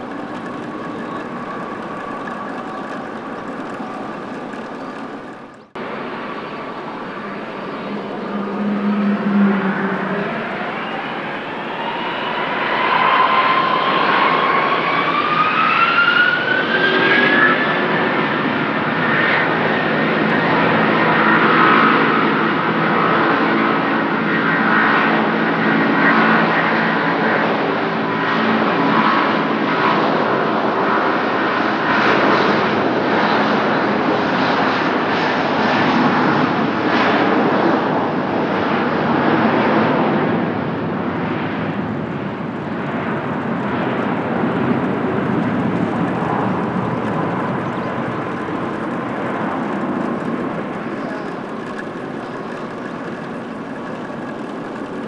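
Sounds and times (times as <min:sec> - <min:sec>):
jet engine roar with whine: 0:00.0 - 0:55.0.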